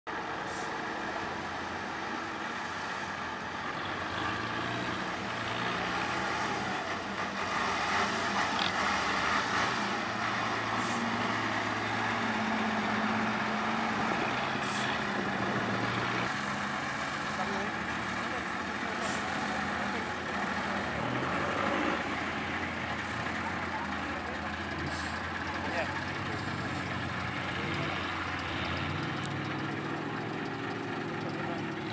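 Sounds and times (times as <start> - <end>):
diesel truck engine running: 0.1 - 31.9.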